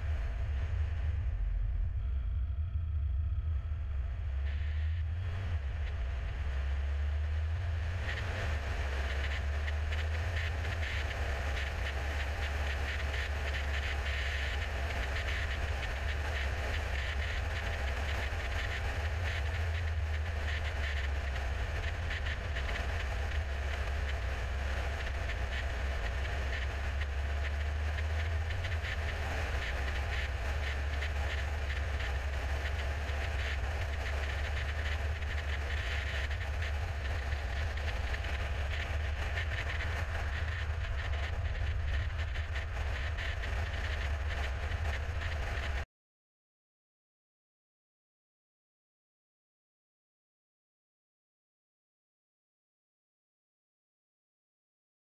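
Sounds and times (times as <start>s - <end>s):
car tyres and engine rumbling: 0.0s - 45.8s.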